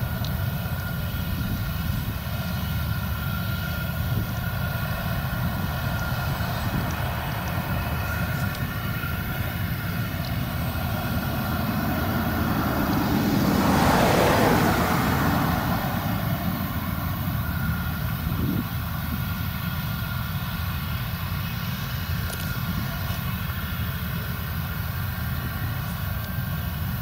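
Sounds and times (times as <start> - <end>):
whining machine tones: 0.0 - 26.6
combine harvester drone: 0.0 - 27.0.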